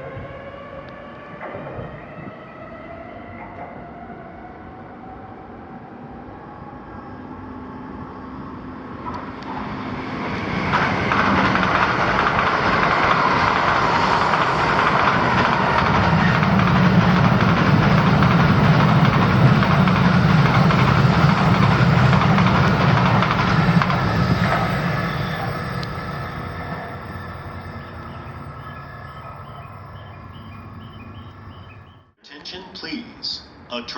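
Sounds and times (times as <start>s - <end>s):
train rushing past on rails: 0.0s - 32.2s.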